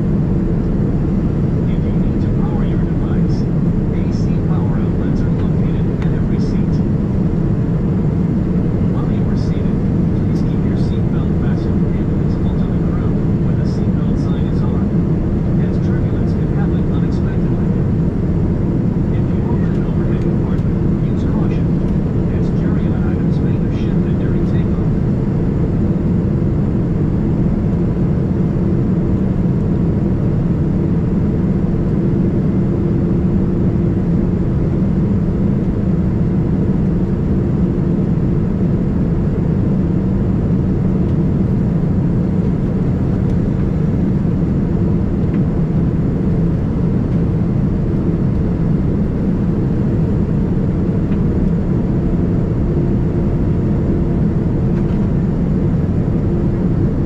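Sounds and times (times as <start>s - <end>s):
airliner cabin drone: 0.0s - 57.0s
faint steady hum: 0.0s - 57.0s.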